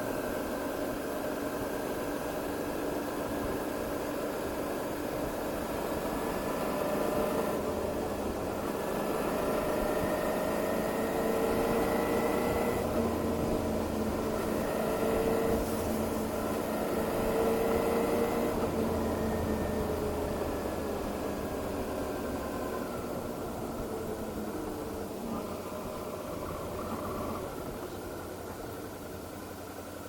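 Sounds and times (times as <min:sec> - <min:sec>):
motorcycle engine running: 0:00.0 - 0:30.0
steady rushing noise: 0:00.1 - 0:30.0.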